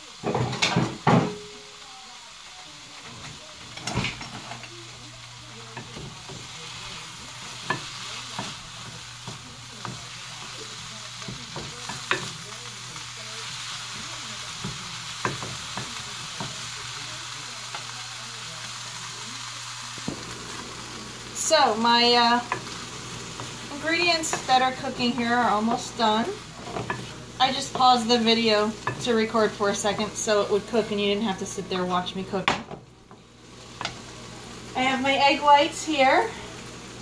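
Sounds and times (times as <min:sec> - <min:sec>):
vegetables sizzling in a frying pan: 0:00.0 - 0:37.0.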